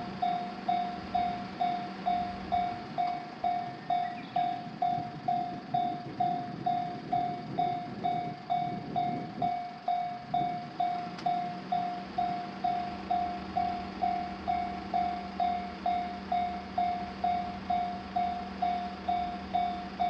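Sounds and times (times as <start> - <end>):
railroad crossing bell ringing: 0.0 - 20.0
train rumbling over crossing: 0.0 - 20.0.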